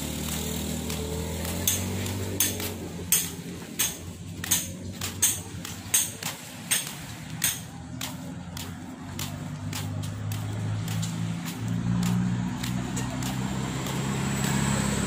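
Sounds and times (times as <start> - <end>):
footsteps on pavement: 0.0 - 15.0.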